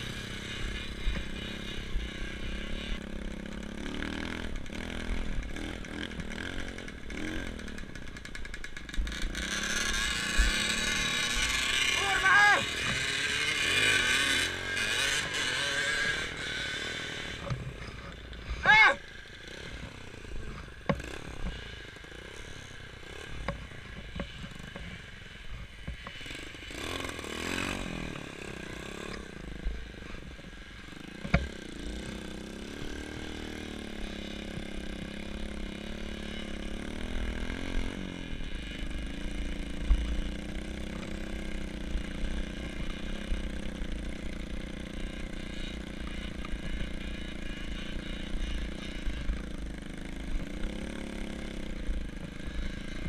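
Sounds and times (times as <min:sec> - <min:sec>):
small engine revving: 0:00.0 - 0:53.0.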